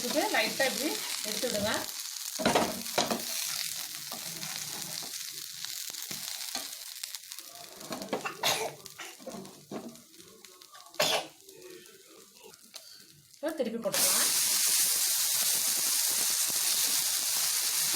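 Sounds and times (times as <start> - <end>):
food sizzling in oil: 0.0 - 17.9.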